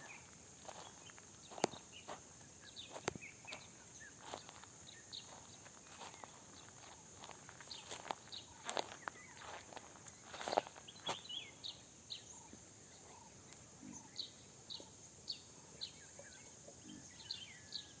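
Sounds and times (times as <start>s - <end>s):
outdoor background hiss: 0.0s - 18.0s
small bird chirping: 0.0s - 18.0s.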